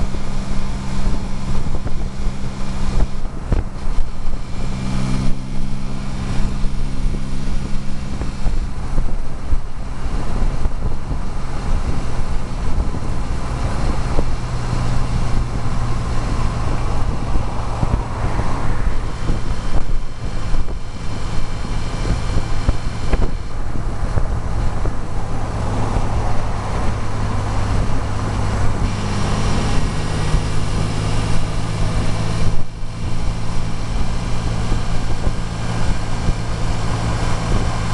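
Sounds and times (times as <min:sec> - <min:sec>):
car engine cruising: 0:00.0 - 0:37.9
wind and road noise: 0:00.0 - 0:37.9.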